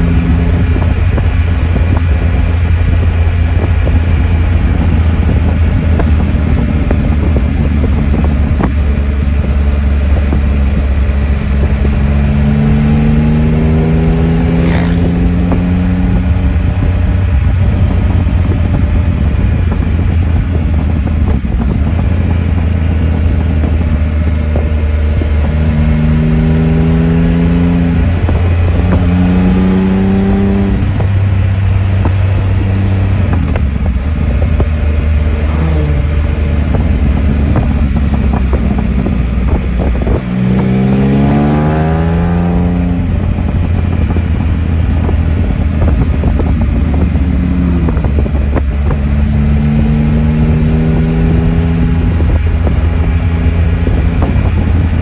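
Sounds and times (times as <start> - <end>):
motorcycle engine accelerating: 0.0 - 55.0
wind on microphone: 0.0 - 55.0.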